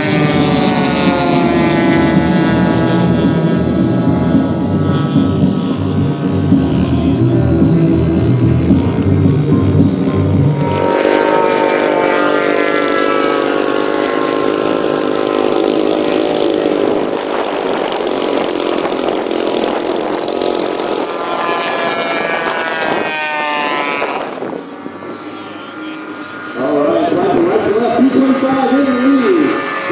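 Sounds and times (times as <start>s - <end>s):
model airplane engines flying past: 0.0s - 29.9s.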